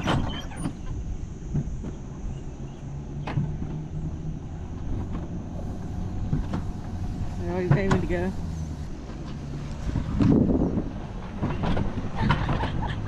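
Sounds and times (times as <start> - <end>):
coaster cart rumbling on track: 0.0 - 13.0.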